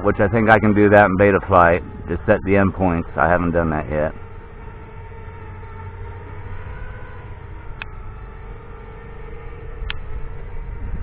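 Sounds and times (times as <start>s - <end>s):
drone motors droning whine: 0.0s - 11.0s.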